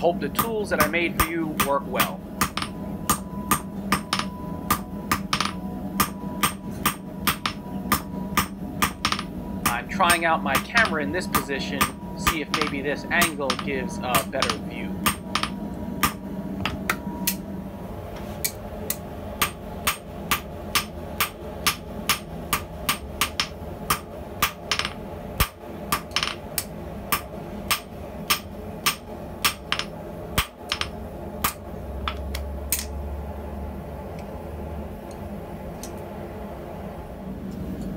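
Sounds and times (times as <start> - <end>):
low steady hum: 0.0 - 37.9
hammer striking hot steel on anvil: 0.3 - 17.4, 18.4 - 32.9.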